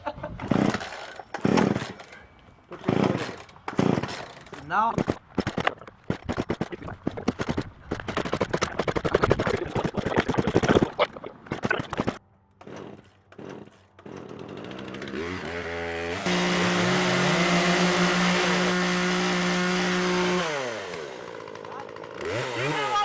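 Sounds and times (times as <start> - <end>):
chainsaw engine revving: 0.4 - 23.0.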